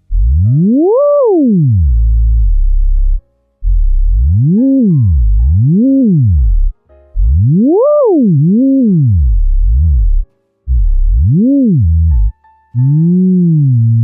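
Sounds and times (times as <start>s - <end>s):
synthesized gliding tone: 0.0s - 14.0s.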